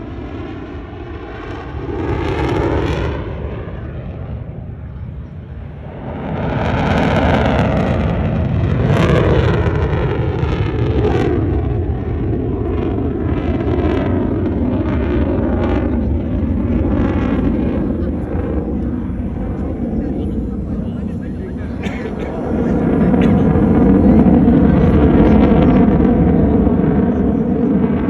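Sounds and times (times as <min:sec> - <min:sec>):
fighter jet roar: 0:00.0 - 0:28.0.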